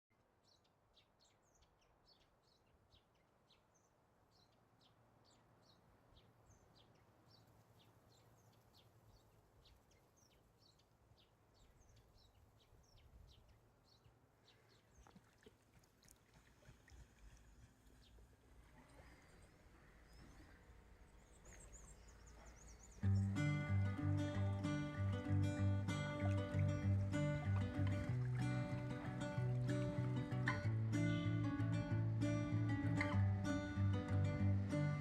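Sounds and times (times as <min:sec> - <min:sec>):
small birds chirping: 0:00.3 - 0:15.5, 0:17.0 - 0:35.0.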